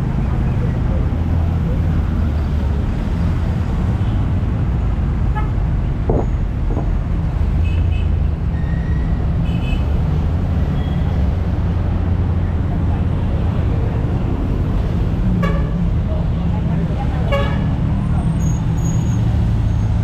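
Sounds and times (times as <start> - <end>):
traffic engine rumble: 0.0 - 20.0.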